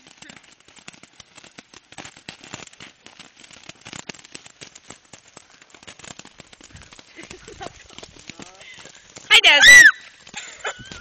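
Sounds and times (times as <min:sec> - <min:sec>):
fireworks popping: 0:00.0 - 0:11.0.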